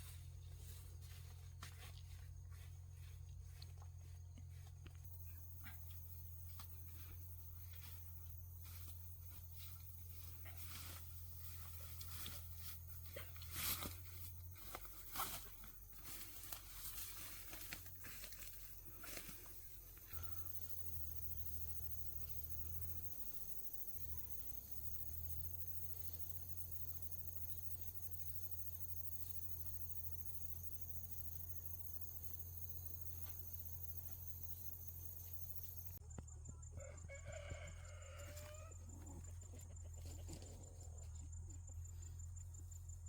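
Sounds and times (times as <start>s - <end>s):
high insect trill: 0.0s - 36.2s, 36.8s - 43.0s.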